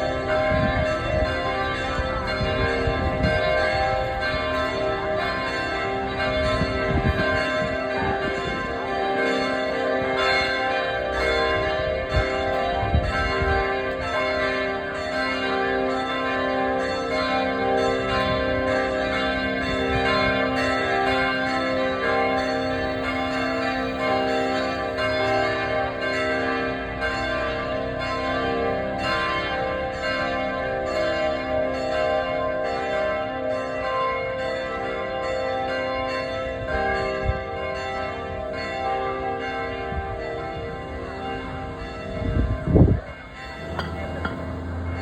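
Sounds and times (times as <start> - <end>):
church bells ringing: 0.0 - 45.0.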